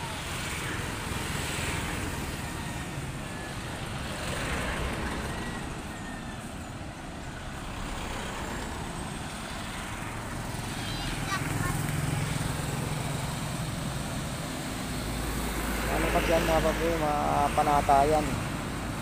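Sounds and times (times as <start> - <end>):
vehicles passing by: 0.0 - 19.0.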